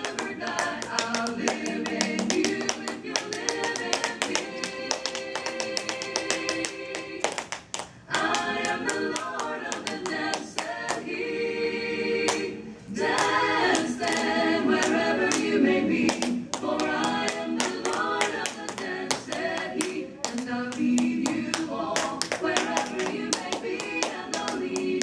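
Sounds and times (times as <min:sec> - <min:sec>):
choir singing a hymn: 0:00.0 - 0:07.2, 0:08.1 - 0:25.0.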